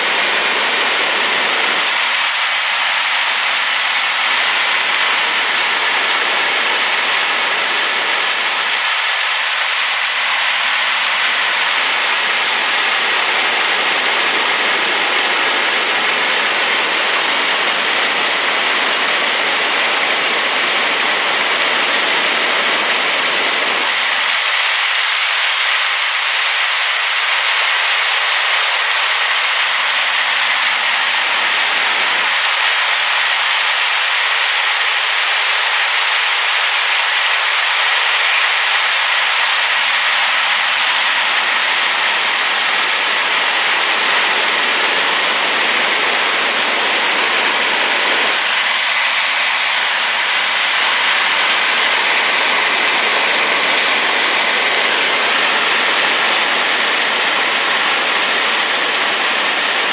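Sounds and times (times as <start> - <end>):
waterfall pouring: 0.0 - 59.9.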